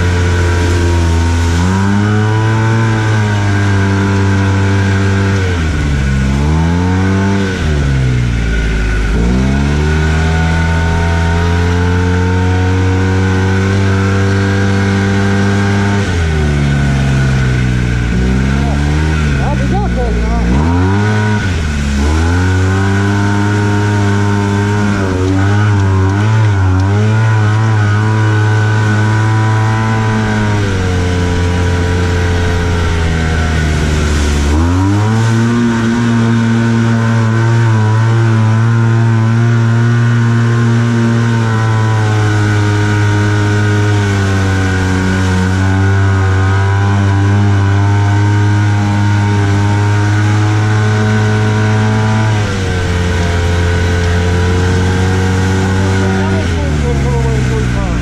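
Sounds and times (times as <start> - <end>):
engine pulling under throttle: 0.0 - 58.0
water spraying: 0.0 - 58.0.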